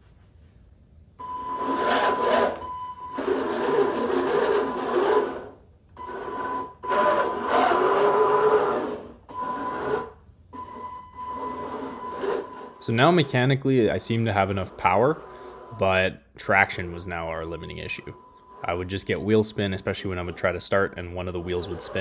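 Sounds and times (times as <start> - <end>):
electric motors and gears whirring: 1.2 - 16.0, 16.6 - 22.0
steady high whine: 1.2 - 22.0.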